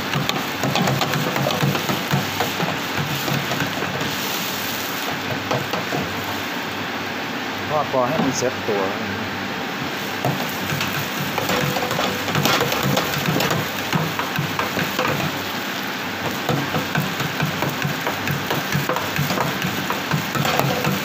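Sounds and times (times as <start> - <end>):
oil sizzling and crackling: 0.0 - 7.6, 9.6 - 21.0.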